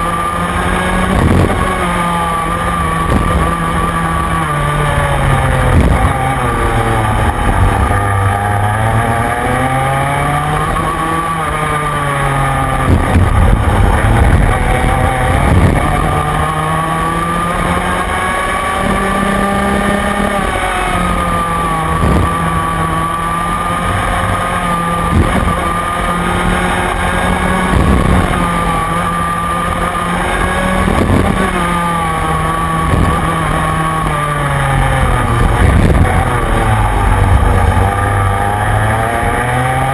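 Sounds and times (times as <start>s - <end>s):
kart engine at racing speed: 0.0s - 39.9s.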